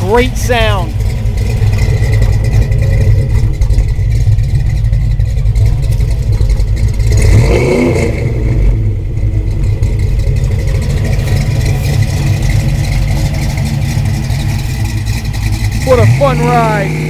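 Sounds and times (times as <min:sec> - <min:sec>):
loud car engine running: 0:00.0 - 0:17.0.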